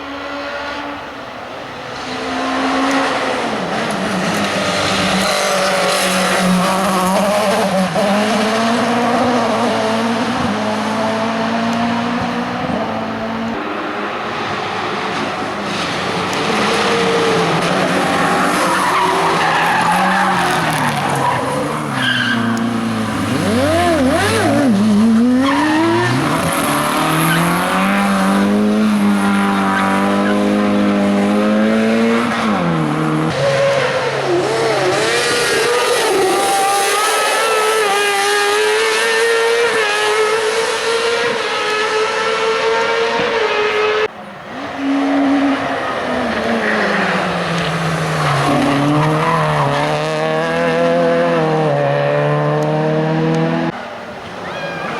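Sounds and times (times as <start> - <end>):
racing car engine revving: 1.9 - 53.8.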